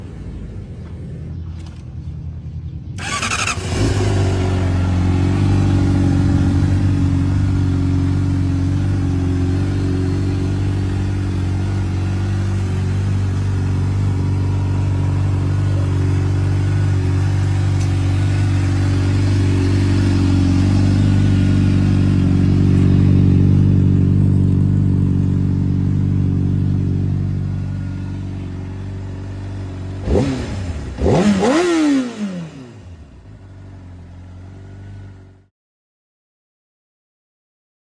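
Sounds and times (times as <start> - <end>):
motorcycle engine starting and idling: 0.0 - 35.4.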